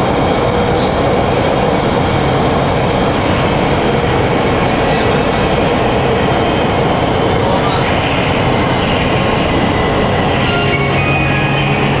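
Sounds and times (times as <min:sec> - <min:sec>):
train wheels on rail: 0:00.0 - 0:12.0.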